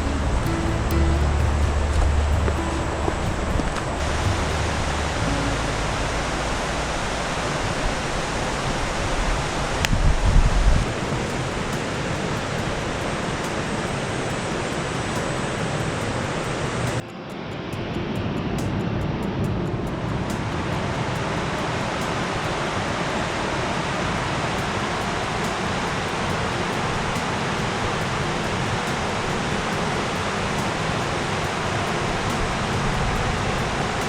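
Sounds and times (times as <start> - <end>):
waterfall rushing: 0.0 - 17.3, 17.9 - 34.0.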